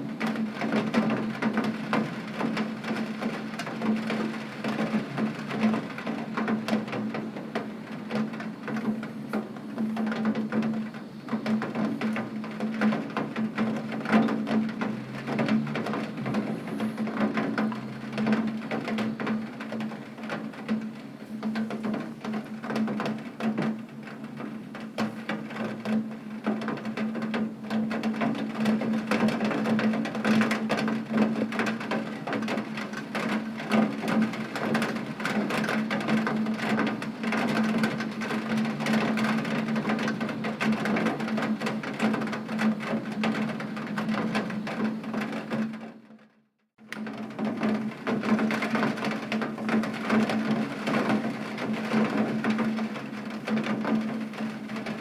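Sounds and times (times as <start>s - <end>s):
heavy rain on a window: 0.0s - 55.0s.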